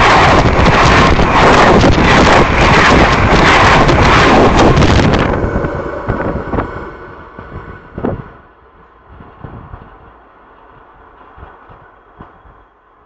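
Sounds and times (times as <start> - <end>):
wind buffeting microphone: 0.0 - 12.8
train passing at speed: 0.0 - 13.0.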